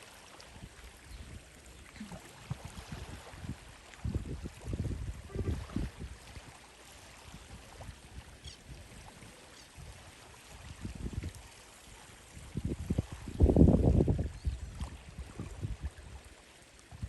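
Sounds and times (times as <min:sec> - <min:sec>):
water washing and splashing: 0:00.0 - 0:14.3.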